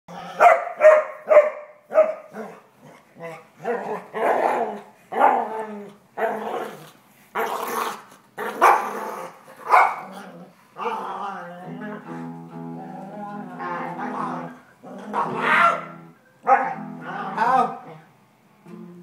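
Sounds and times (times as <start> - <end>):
dog barking and growling: 0.1 - 18.2.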